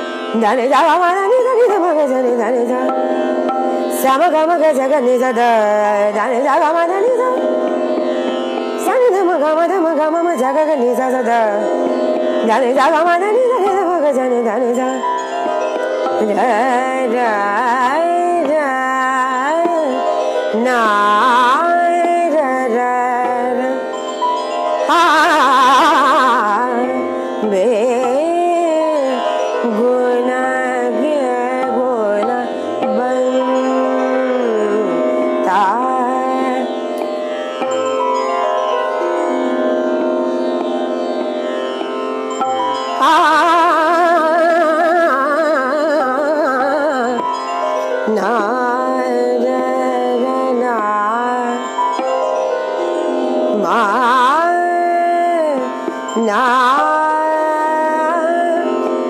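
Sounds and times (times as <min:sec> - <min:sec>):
woman singing: 0:00.0 - 0:37.9, 0:42.0 - 0:52.1, 0:53.4 - 0:59.0.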